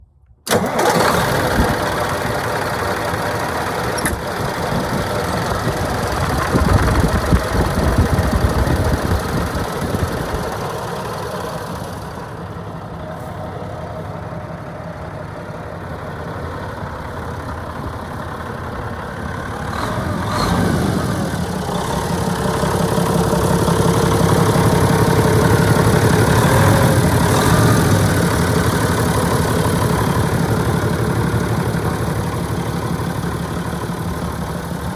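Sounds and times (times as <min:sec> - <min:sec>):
truck engine idling: 0:00.4 - 0:34.9.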